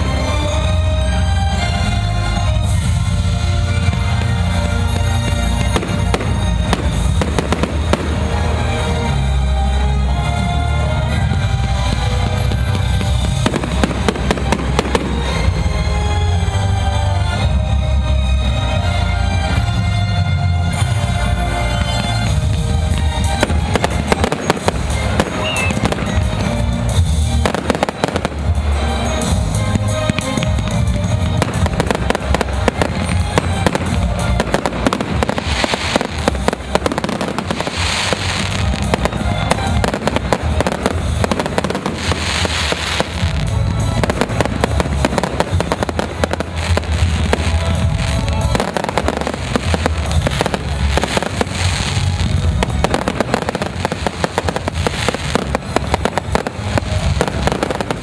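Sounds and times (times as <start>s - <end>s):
fireworks bangs and crackling: 0.0s - 58.0s
music: 0.0s - 58.0s.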